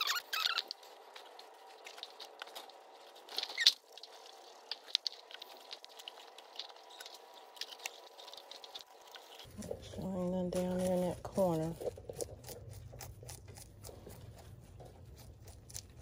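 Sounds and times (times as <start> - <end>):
faint steady hum: 0.0 - 16.0
rabbits scratching in hay: 0.0 - 16.0.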